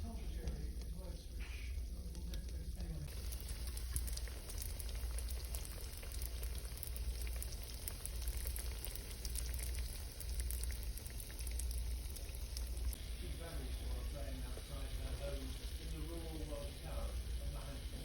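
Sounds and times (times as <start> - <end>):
donuts sizzling in hot oil: 0.0 - 18.0.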